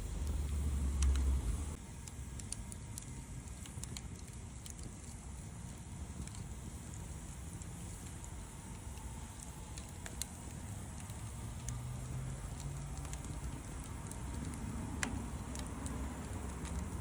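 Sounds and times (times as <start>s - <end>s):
steady low rumble: 0.0s - 17.0s
wood fire crackling and popping: 0.0s - 17.0s.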